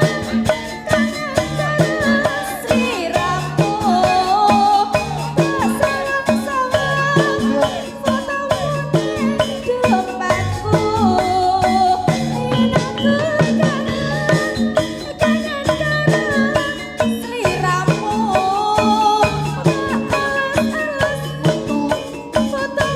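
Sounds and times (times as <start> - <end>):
drum strokes: 0.0 - 22.5
wavering melodic line: 0.0 - 22.9.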